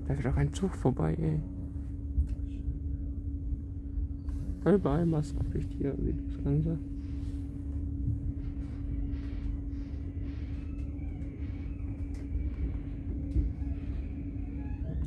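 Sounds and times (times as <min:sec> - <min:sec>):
constant hum: 0:00.0 - 0:15.0
faint high whine: 0:00.0 - 0:15.0
train carriage rumble: 0:00.0 - 0:15.0.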